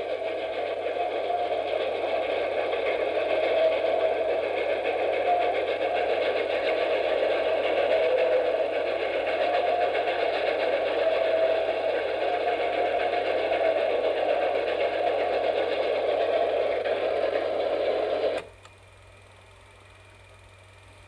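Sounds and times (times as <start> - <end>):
film projector clattering: 0.0 - 18.5.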